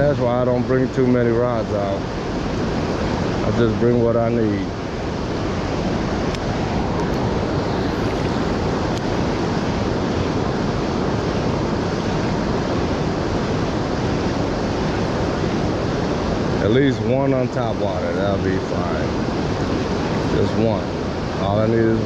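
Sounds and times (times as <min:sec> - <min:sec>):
fast-flowing river water: 0:00.0 - 0:22.0.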